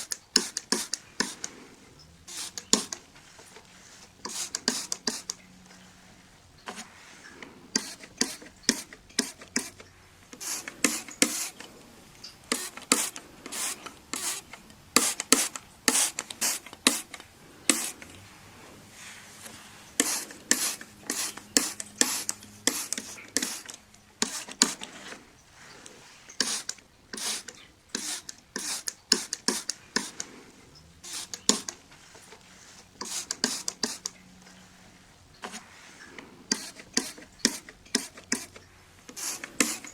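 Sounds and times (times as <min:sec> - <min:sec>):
glass cleaner spray bursts: 0:00.0 - 0:05.9, 0:06.6 - 0:30.4, 0:31.0 - 0:34.2, 0:35.4 - 0:39.9
rubbing on glass: 0:00.0 - 0:39.9.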